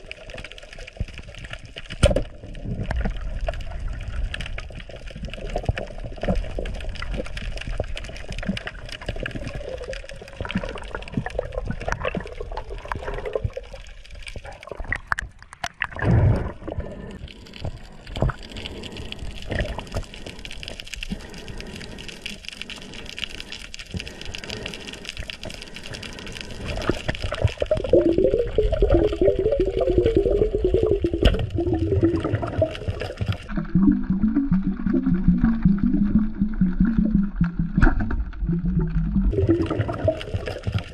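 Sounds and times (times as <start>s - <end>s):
crackling clicks and snaps: 0.0s - 40.9s
underwater rush of water: 0.0s - 40.9s.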